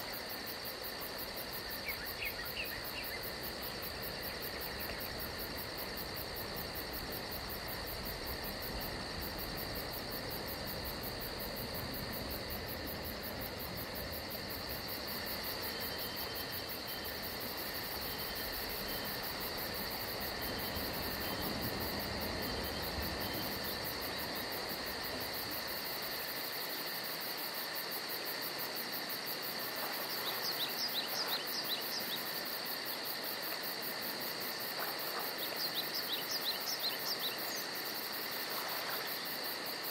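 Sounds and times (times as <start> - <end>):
crickets and insects chirring: 0.0 - 39.9.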